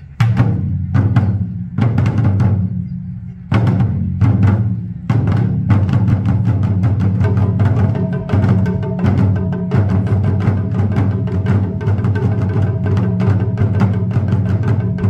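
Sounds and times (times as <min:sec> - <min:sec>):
taiko drums playing: 0:00.0 - 0:15.0.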